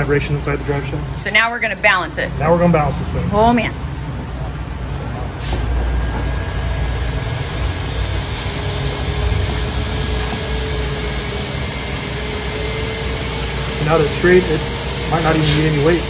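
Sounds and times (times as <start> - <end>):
balancing machine humming: 0.0 - 16.0.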